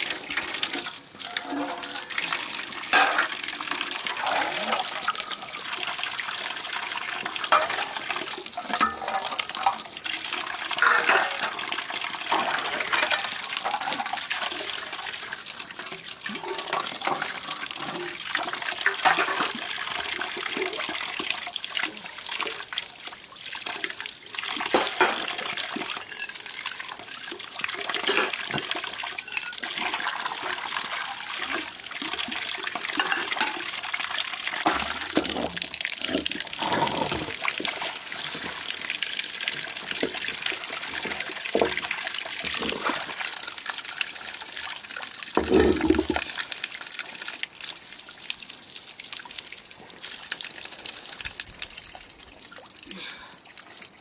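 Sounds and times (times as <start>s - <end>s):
tap water pouring onto concrete: 0.0s - 54.0s.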